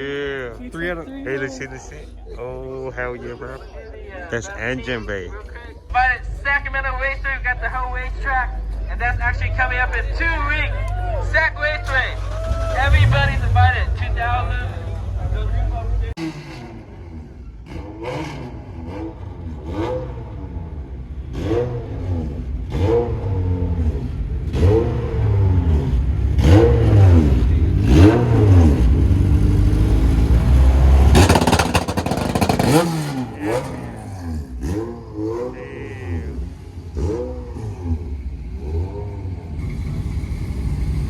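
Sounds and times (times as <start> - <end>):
car engine revving: 7.8 - 41.0.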